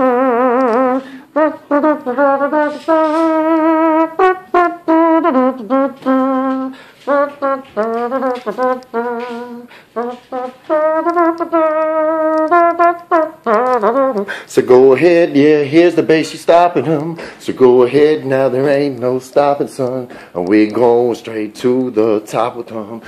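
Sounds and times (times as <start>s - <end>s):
man vocalizing wordless melody: 0.0s - 23.0s.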